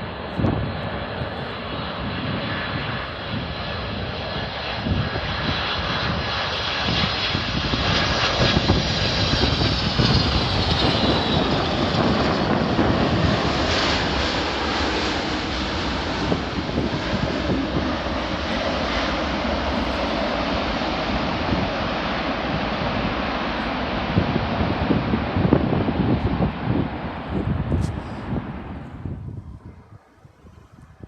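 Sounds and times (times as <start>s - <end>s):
high jet whine: 0.0s - 31.0s
jet engines roaring past: 0.0s - 31.0s.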